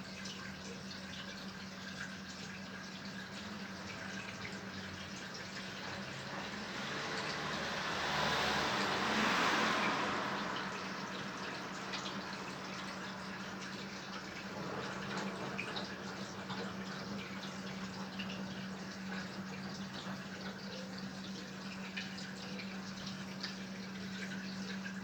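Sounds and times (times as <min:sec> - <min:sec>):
water rushing into washing machine: 0:00.0 - 0:25.0.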